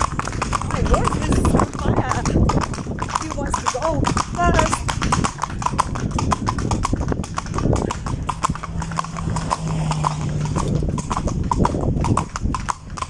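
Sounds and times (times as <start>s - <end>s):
horse hooves on pavement: 0.0s - 13.0s.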